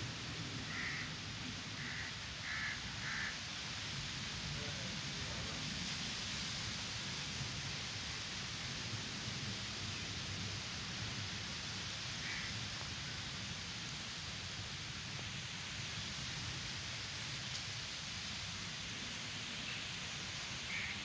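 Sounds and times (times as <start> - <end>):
wind rushing through trees: 0.0 - 21.0.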